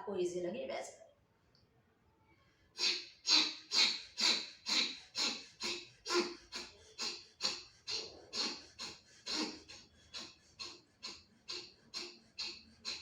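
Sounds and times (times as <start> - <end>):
sharp breath exhalations: 2.4 - 13.0.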